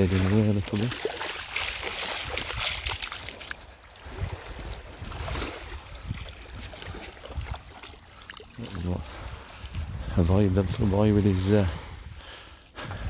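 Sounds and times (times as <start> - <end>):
small waves washing onto sand: 0.0 - 13.0
wind rumbling on microphone: 0.0 - 13.0.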